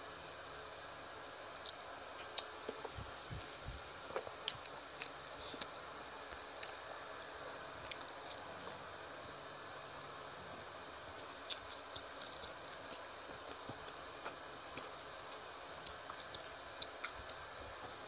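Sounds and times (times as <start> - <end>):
chewing rice: 1.4 - 3.5, 4.1 - 9.0, 10.5 - 18.0.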